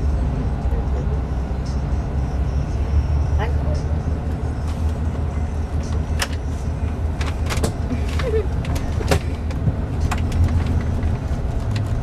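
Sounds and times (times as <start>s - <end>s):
coach engine drone: 0.0s - 12.0s.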